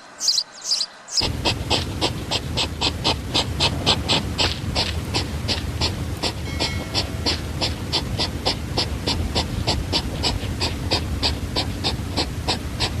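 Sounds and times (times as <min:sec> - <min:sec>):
hedgehog snuffling huffs: 0:01.2 - 0:13.0.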